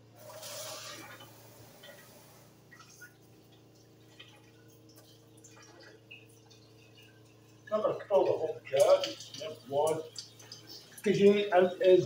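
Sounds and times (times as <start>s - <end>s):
water running into a jar: 0.0s - 12.0s
faint water drips: 0.2s - 12.0s.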